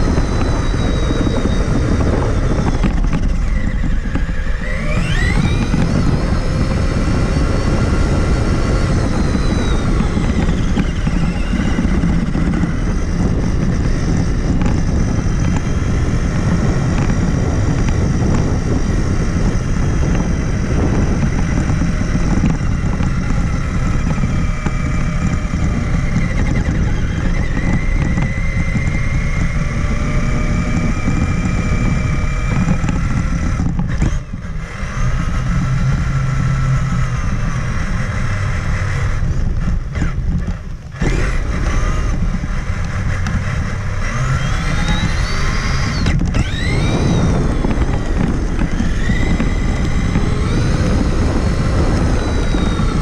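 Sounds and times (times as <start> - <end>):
electric motor whining: 0.0 - 53.0
heavy low rumble: 0.0 - 53.0.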